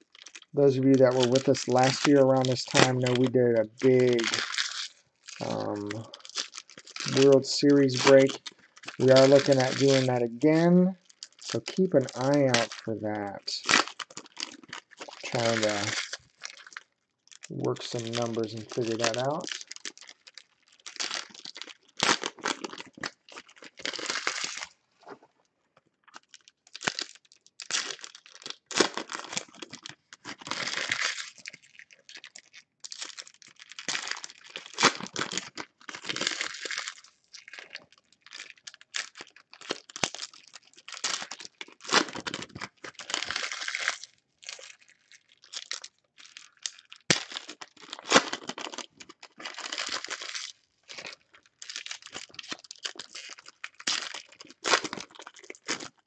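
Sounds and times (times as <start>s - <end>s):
foil wrappers tearing and crinkling: 0.0s - 24.8s, 26.1s - 56.0s.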